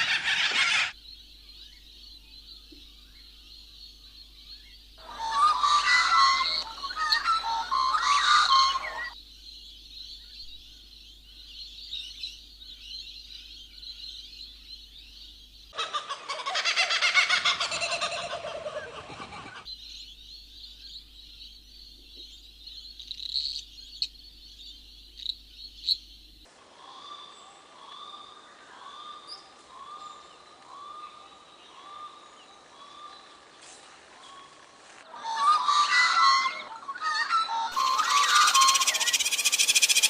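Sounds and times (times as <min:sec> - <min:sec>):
birds calling loudly: 0:00.0 - 0:40.0.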